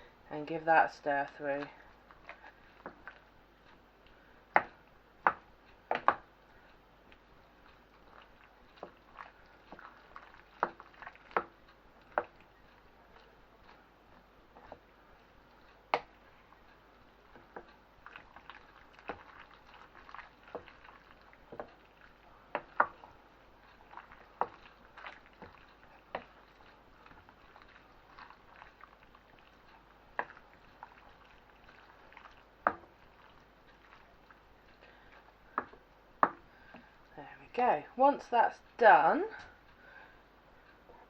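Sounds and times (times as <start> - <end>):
wet squelch of pasta sauce: 1.1 - 4.8, 6.4 - 37.2.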